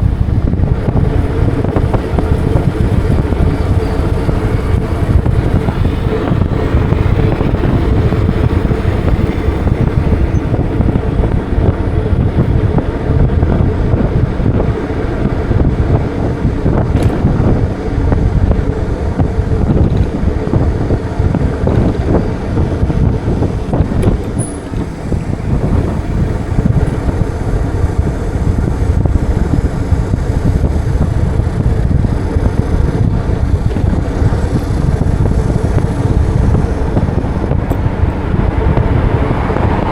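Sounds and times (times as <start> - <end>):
road traffic: 0.0 - 39.9
wind rumbling on microphone: 0.0 - 39.9.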